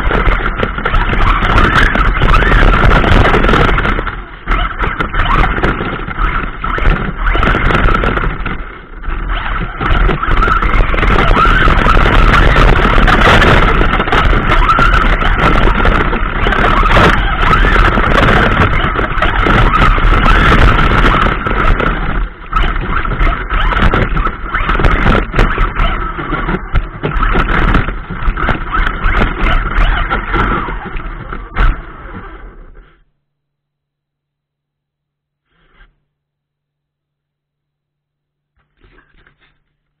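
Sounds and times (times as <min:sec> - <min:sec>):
knocks from rough ground: 0:00.0 - 0:32.3
rc car motor whine: 0:00.0 - 0:33.0.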